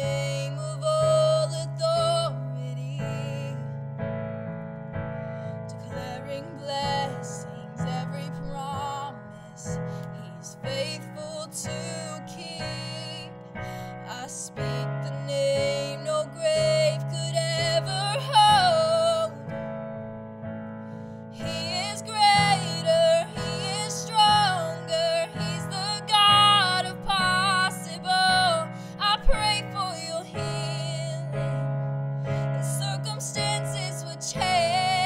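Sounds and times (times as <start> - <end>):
woman singing: 0.0 - 3.8, 5.5 - 19.5, 21.4 - 35.0
piano chords: 0.0 - 35.0.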